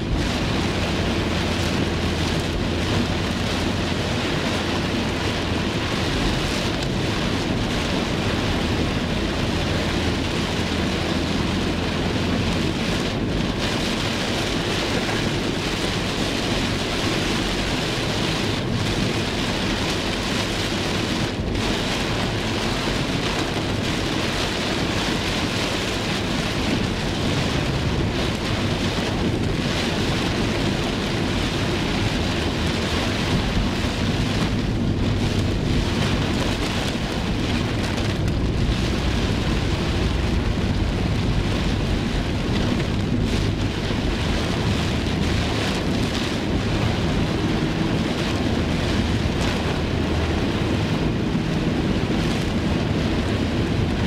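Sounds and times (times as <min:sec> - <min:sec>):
heavy rain on car roof: 0:00.0 - 0:54.0.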